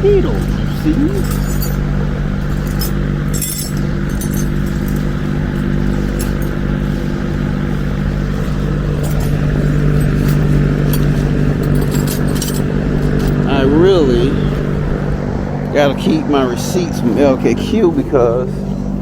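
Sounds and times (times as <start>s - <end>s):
electric fan humming: 0.0s - 19.0s.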